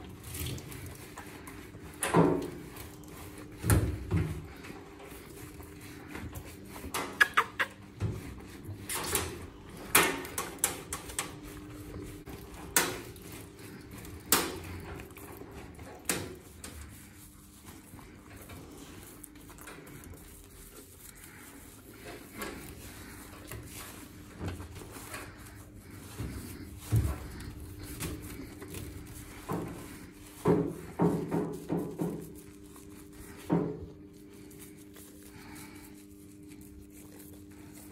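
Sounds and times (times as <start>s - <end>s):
sponge scrubbing wet fur: 0.0s - 37.9s.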